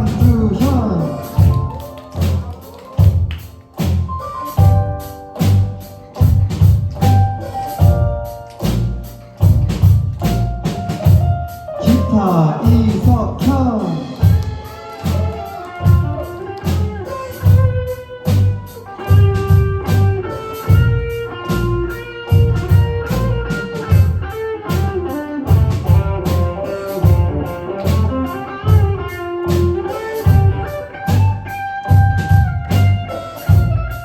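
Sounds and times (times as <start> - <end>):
bass: 0.0 - 34.0
drum kit: 0.0 - 34.0
guitar melody: 0.0 - 34.0.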